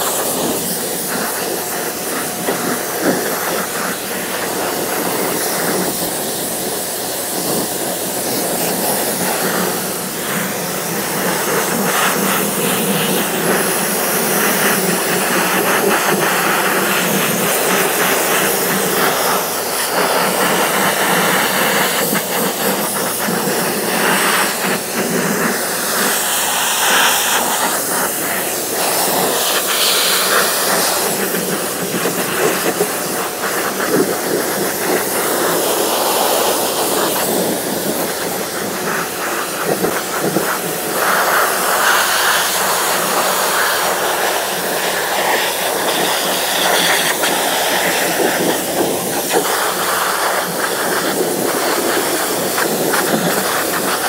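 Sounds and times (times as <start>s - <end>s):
pressure washer spraying water: 0.0s - 54.0s.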